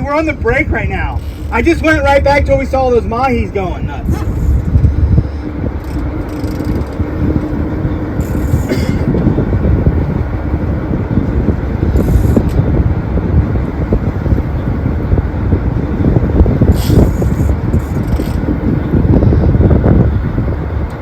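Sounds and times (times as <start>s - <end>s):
boat engine drone: 0.0s - 21.0s
wind and water noise: 0.0s - 21.0s.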